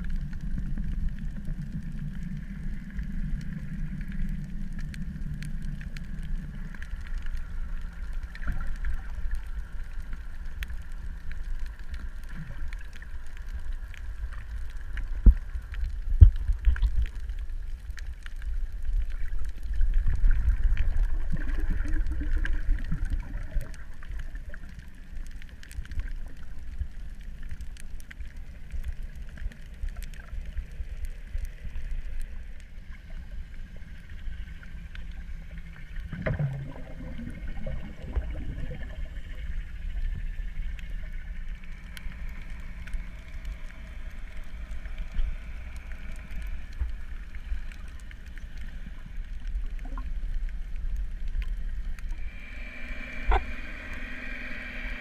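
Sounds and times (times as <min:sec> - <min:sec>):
faint hum: 0:00.0 - 0:55.0
underwater low rumble: 0:00.0 - 0:55.0
water gurgling: 0:00.0 - 0:55.0.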